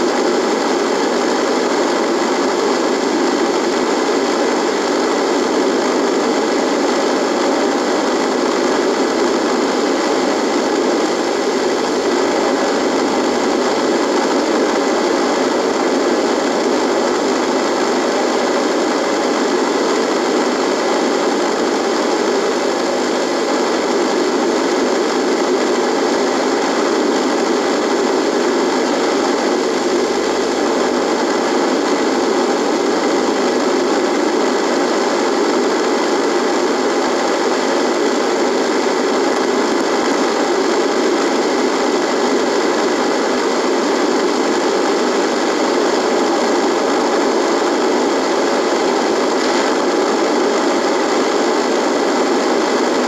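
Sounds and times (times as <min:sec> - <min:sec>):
radio static buzzing: 0:00.0 - 0:53.0.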